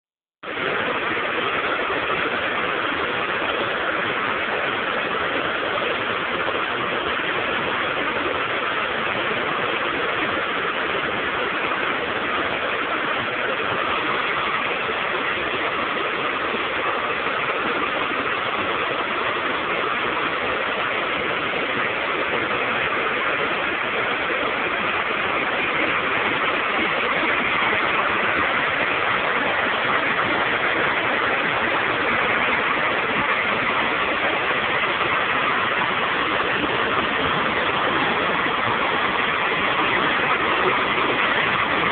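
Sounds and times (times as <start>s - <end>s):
waterfall rushing over stone steps: 0.4s - 41.9s.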